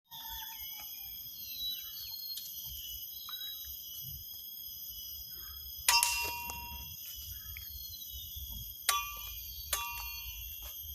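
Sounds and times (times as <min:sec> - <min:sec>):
bird chirps: 0:00.1 - 0:04.3, 0:04.9 - 0:10.9
high insect drone: 0:00.1 - 0:10.9.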